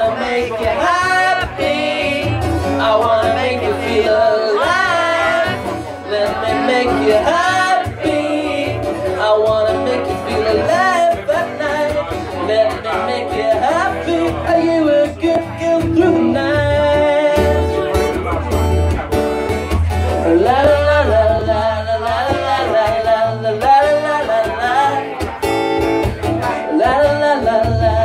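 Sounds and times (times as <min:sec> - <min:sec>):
man singing: 0:00.0 - 0:28.0
strummed acoustic guitar: 0:00.0 - 0:28.0.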